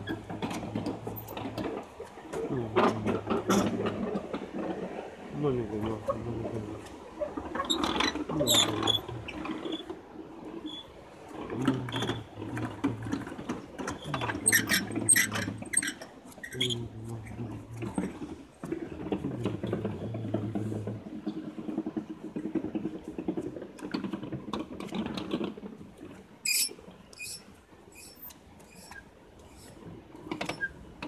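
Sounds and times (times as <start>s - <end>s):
prayer wheels rattling and clicking: 0.0s - 31.0s.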